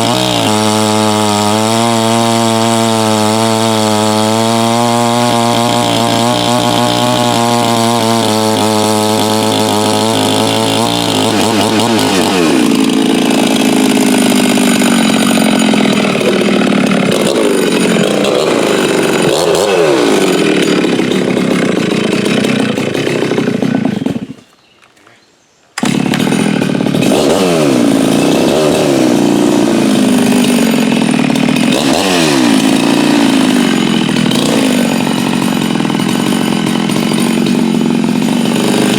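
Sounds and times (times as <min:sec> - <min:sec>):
chainsaw cutting: 0:00.0 - 0:24.6, 0:25.8 - 0:38.9.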